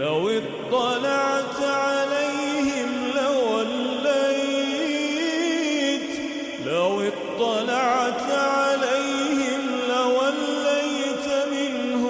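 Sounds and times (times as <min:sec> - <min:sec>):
melodic recitation by one person: 0:00.0 - 0:12.0.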